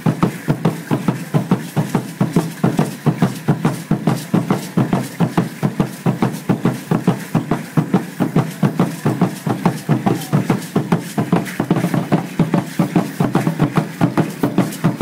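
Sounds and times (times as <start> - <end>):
ankle rattles shaking: 0.0 - 15.0
drum beating fast rhythm: 0.0 - 15.0.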